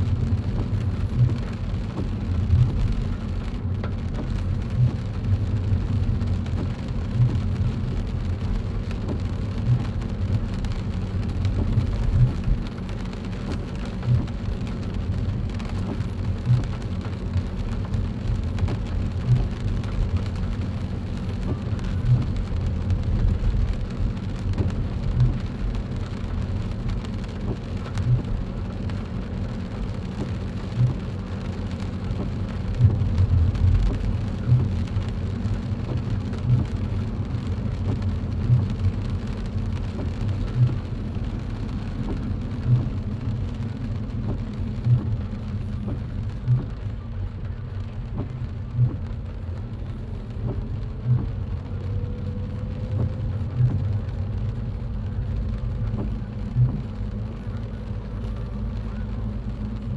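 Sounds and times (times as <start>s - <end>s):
rain hissing: 0.0s - 59.9s
tyres rumbling on wet road: 0.0s - 59.9s.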